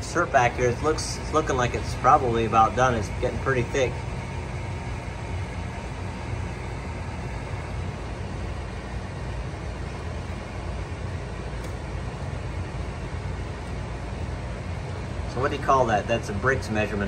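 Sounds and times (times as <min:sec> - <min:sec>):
pots boiling with low rumble: 0:00.0 - 0:17.0.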